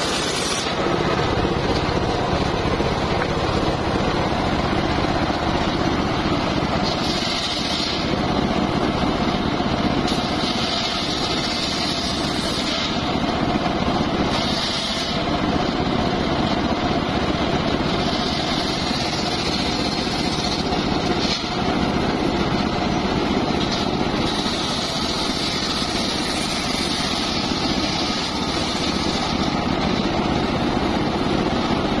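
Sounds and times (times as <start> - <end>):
circular saw drive running: 0.0 - 32.0
saw blade whine cutting wood: 0.0 - 32.0.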